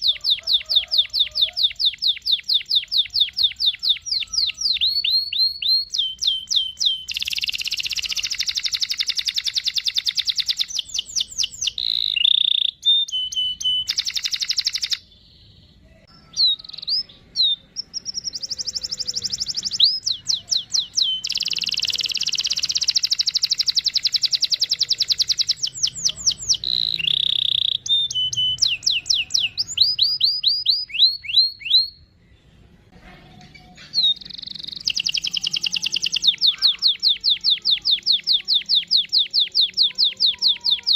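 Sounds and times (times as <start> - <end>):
canary singing trills: 0.0 - 32.8, 33.4 - 40.9.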